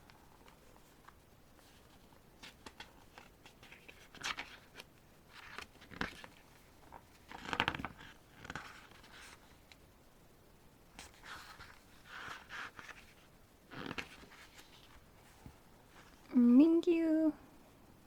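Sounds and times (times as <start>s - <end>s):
paper pages rustling: 0.0s - 9.9s, 10.9s - 16.3s.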